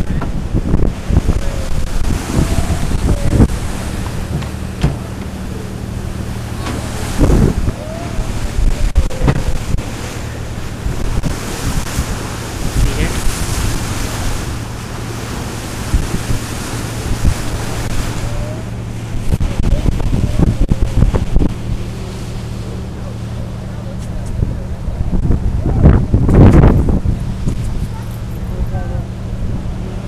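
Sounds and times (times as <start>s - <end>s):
boat engine humming: 0.0s - 30.0s
sea water washing: 0.0s - 30.0s
wind buffeting microphone: 0.0s - 30.0s.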